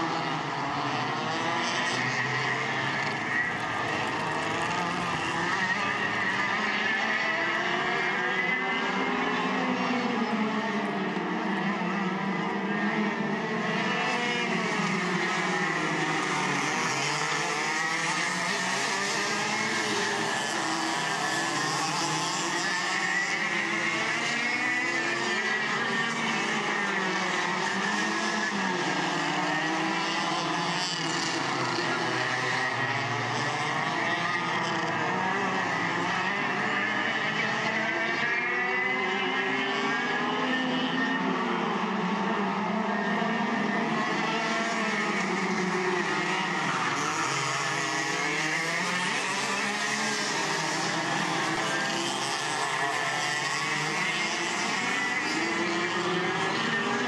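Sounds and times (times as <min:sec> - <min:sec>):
go-kart engines racing: 0:00.0 - 0:57.0.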